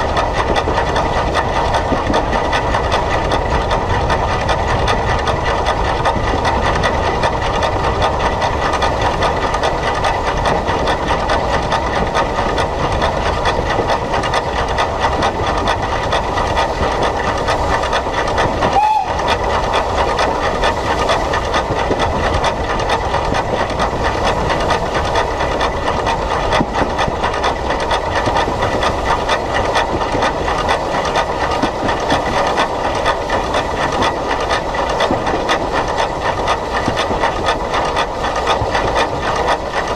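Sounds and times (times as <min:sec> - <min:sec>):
steam locomotive hiss and rumble: 0:00.0 - 0:39.9.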